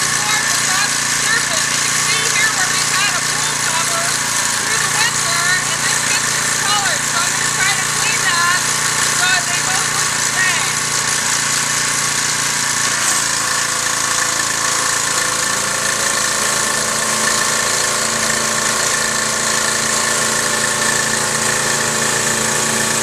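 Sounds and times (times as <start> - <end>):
pressure washer engine running: 0.0 - 23.0.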